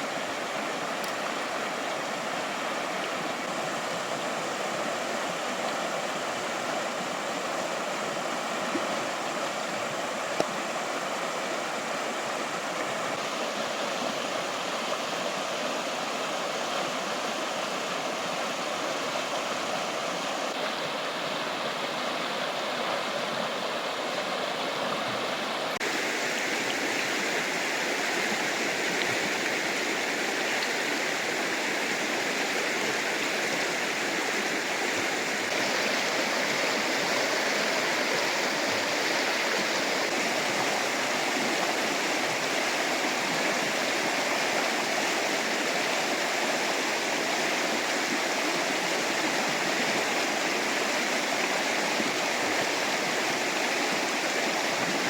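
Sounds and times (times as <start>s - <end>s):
fast river water rushing: 0.0s - 55.0s.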